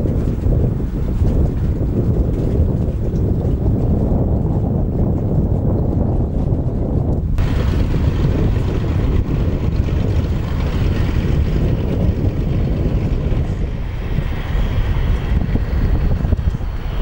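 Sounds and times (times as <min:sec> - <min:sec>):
floatplane engine running: 0:00.0 - 0:17.0
wind buffeting microphone: 0:00.0 - 0:17.0.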